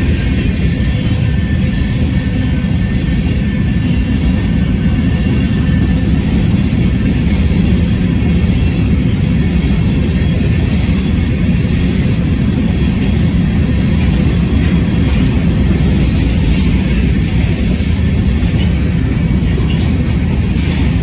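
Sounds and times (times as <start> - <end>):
steel train wheels rumbling on rails: 0.0 - 21.0.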